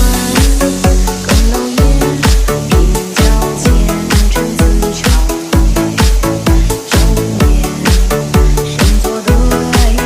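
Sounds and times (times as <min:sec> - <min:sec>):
electronic dance music: 0:00.0 - 0:10.0
kick drum: 0:00.0 - 0:10.0.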